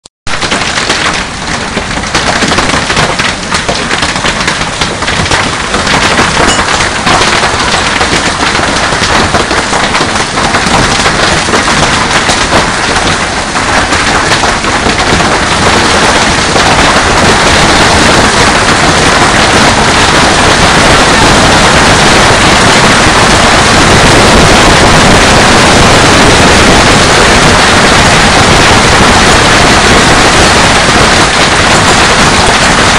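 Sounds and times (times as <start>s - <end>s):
heavy hail pelting: 0.3s - 32.9s.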